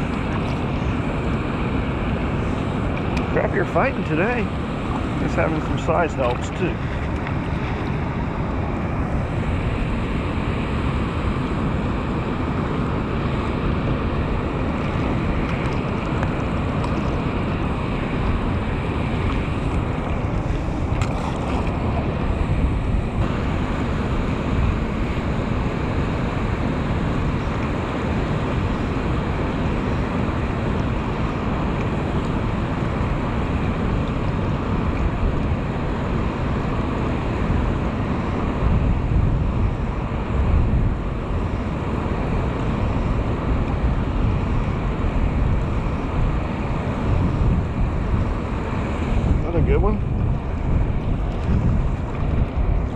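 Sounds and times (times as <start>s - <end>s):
water rushing from dam outlet: 0.0s - 52.9s
wind buffeting microphone: 0.0s - 52.9s.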